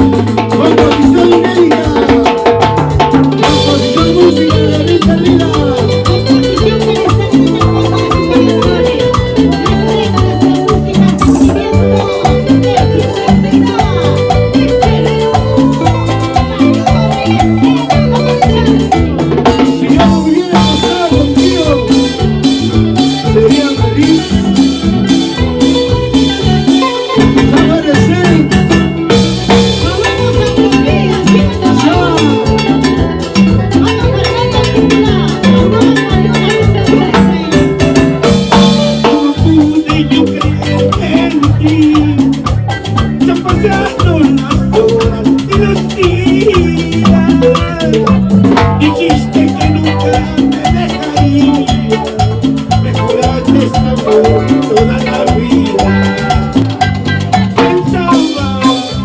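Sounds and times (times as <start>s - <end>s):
latin dance band playing: 0.0s - 59.0s.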